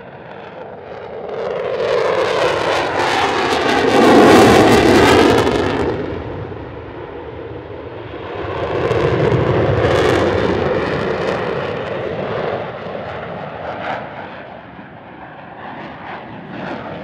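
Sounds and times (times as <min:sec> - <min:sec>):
jet afterburner roar passing: 0:00.0 - 0:17.0.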